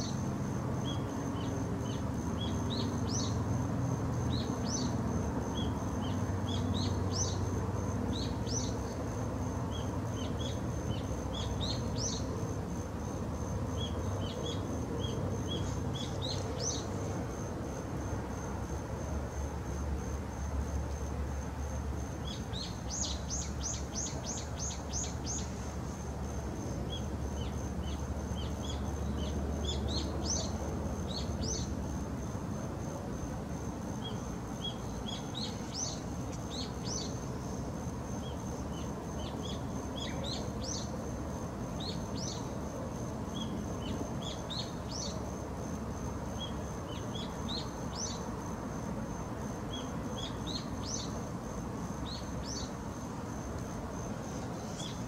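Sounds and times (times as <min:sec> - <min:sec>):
outdoor hiss: 0:07.9 - 0:55.0.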